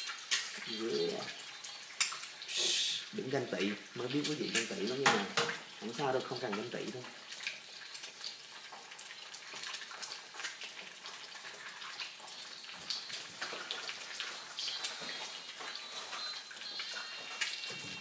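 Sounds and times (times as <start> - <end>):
eggs sizzling in oil: 0.0 - 18.0.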